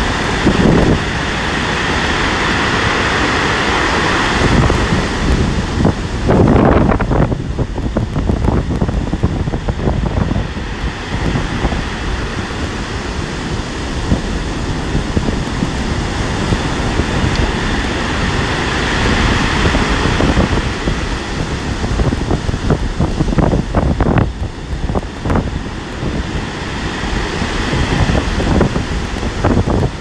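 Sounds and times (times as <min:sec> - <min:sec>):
storm waves breaking: 0:00.0 - 0:30.0
wind buffeting microphone: 0:00.0 - 0:30.0.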